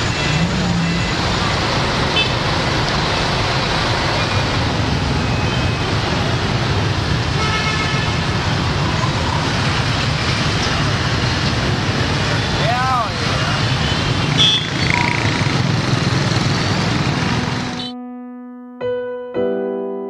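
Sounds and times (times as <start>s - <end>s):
traffic engines in a jam: 0.0s - 17.9s.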